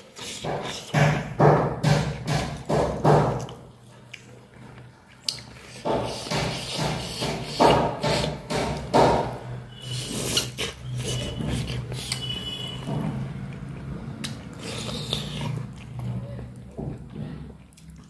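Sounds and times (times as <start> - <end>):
person chewing: 0.0 - 1.1, 2.6 - 8.4, 9.8 - 18.0.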